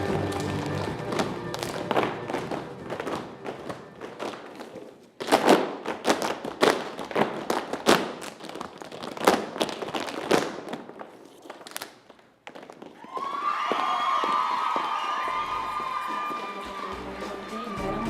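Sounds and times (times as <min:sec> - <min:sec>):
tap shoes striking stage floor: 0:00.0 - 0:18.0.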